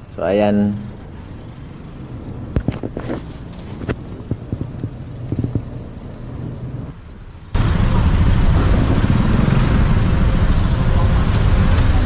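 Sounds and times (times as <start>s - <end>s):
low rumble: 1.4s - 12.0s
wind noise: 1.9s - 12.0s.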